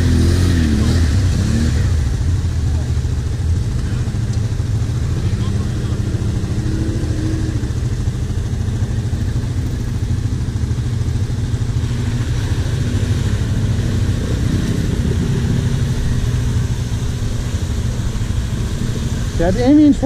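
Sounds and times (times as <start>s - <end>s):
atv engines rumbling at low revs: 0.0s - 20.0s.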